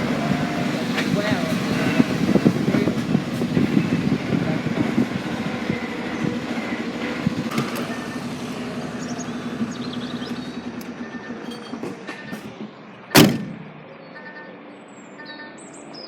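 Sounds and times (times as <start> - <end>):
heavy vehicle engine humming: 0.0 - 15.7.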